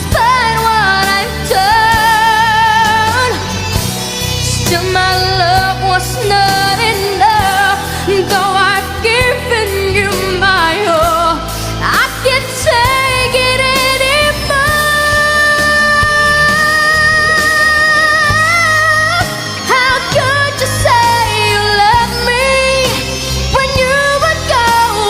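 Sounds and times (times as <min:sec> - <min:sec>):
steady bass: 0:00.0 - 0:25.0
wavering melodic lead: 0:00.0 - 0:25.0.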